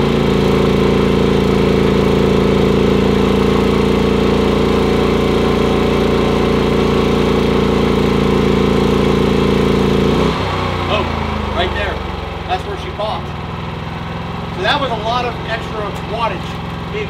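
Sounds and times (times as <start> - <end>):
generator engine humming: 0.0 - 17.0.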